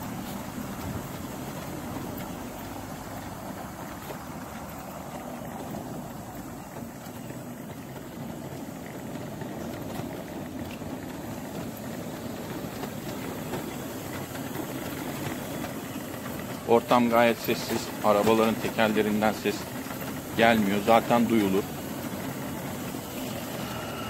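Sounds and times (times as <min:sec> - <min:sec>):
wheelchair rolling over paving: 0:00.0 - 0:24.0.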